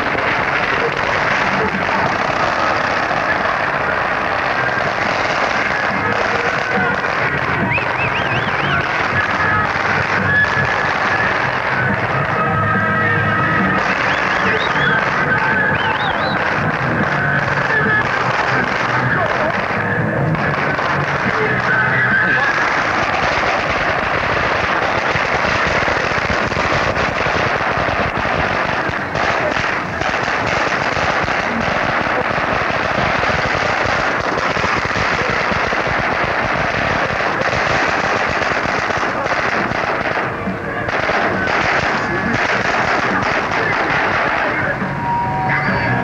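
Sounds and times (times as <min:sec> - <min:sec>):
firecracker string crackling: 0:00.0 - 0:46.0.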